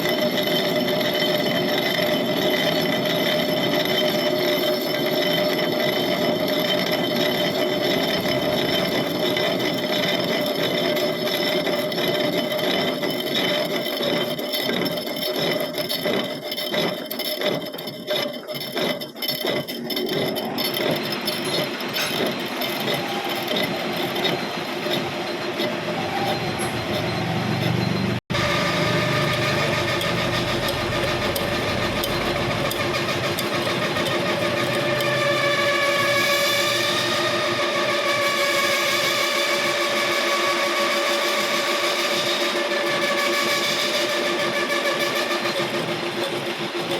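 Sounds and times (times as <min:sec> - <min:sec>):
metal lathe whining: 0:00.0 - 0:46.9
scraping and rattling: 0:00.0 - 0:46.9.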